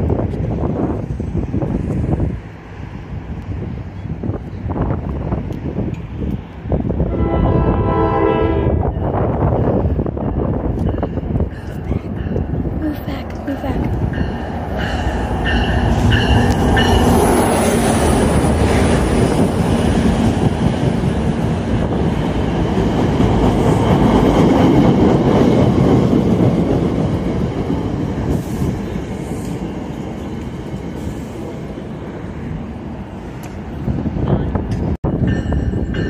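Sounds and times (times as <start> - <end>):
train passing wheels rumbling: 0.0 - 36.0.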